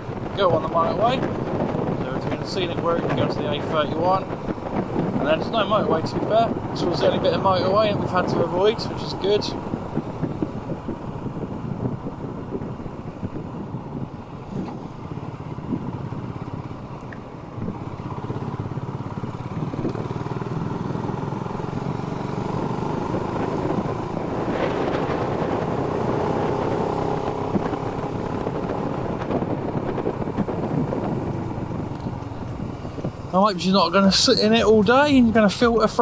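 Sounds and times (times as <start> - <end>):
motorcycle engine riding: 0.0 - 36.0.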